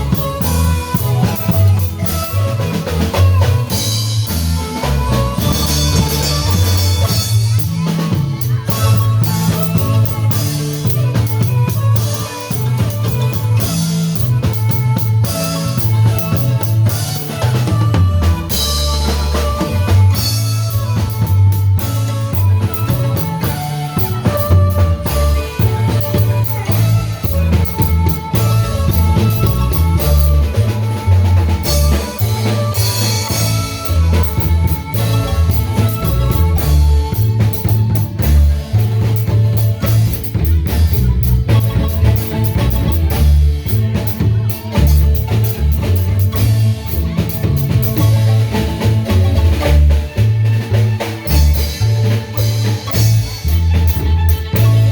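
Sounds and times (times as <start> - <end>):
bass line: 0.0 - 54.9
drum kit: 0.0 - 54.9
marimba band playing dance tune: 0.0 - 54.9.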